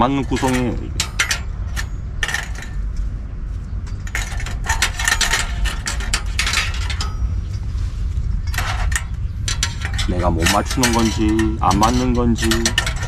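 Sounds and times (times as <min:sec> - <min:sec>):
low background rumble: 0:00.0 - 0:13.0
metal stove parts clinking: 0:00.0 - 0:13.0.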